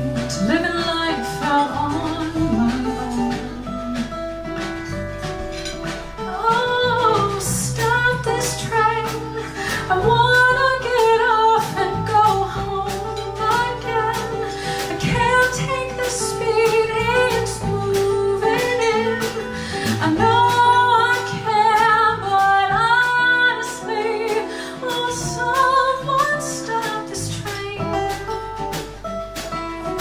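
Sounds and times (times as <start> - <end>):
woman singing a ballad: 0.0 - 4.8, 5.6 - 28.8
band with guitar: 0.0 - 30.0.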